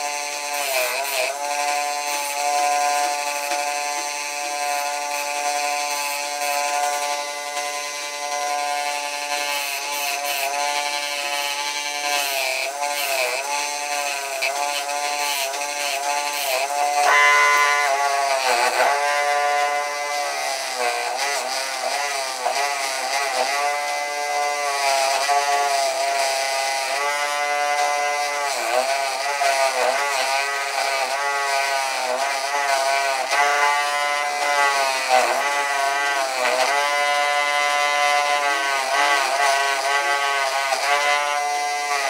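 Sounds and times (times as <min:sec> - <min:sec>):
bench grinder whining: 0:00.0 - 0:42.0.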